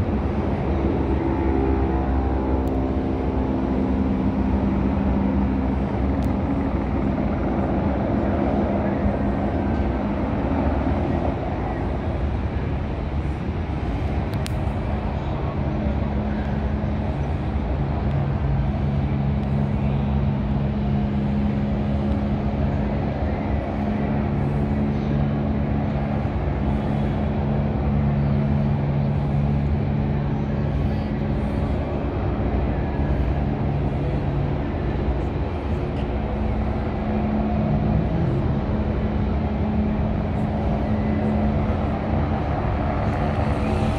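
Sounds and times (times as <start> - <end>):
helicopters droning: 0.0 - 43.9
road traffic: 0.0 - 43.9.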